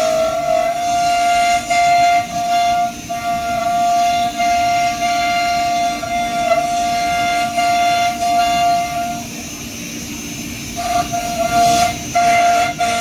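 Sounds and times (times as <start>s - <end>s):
rumbling machine noise: 0.0s - 13.0s.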